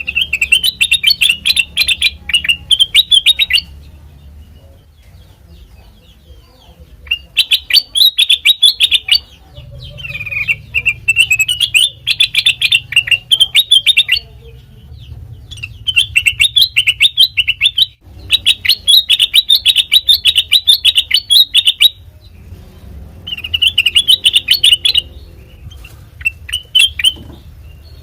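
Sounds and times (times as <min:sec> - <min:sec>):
bulbul chirping song: 0:00.0 - 0:28.0.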